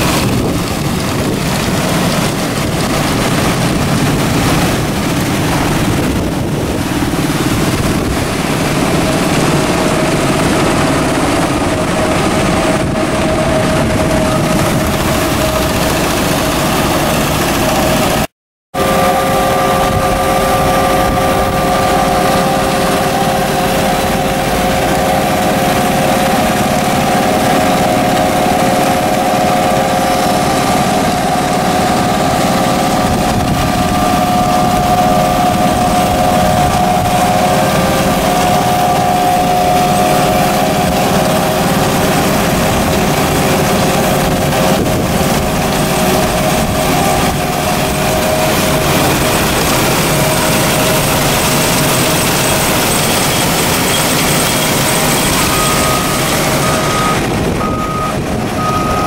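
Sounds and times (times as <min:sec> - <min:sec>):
machinery hum and whine: 0:00.0 - 0:59.0
steady rushing noise: 0:00.0 - 0:59.0.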